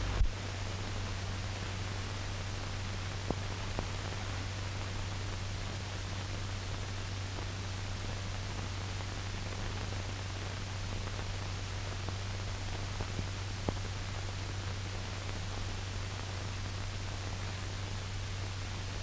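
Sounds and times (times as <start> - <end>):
film soundtrack hiss and hum: 0.0 - 19.0.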